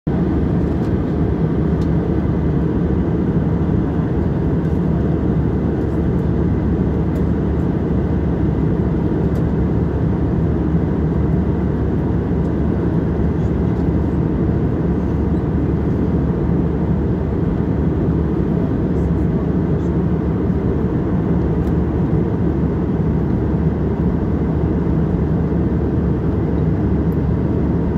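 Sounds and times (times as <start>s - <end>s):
airliner cabin rumble: 0.1s - 27.9s.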